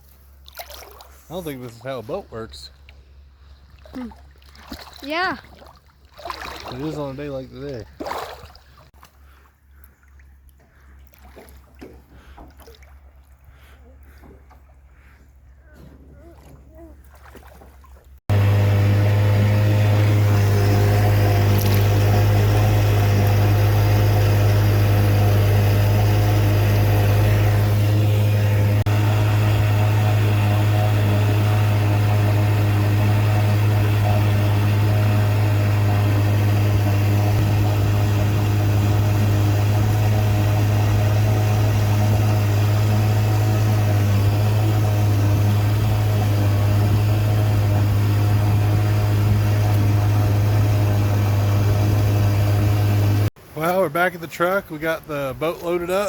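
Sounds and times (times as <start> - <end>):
outboard motor droning: 0.0 - 56.0.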